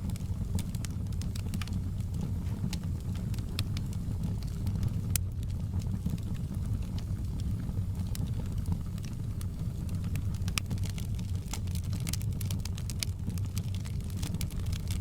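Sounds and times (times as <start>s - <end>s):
sharp pops and snaps of fire: 0.0s - 15.0s
wood fire crackling: 0.0s - 15.0s.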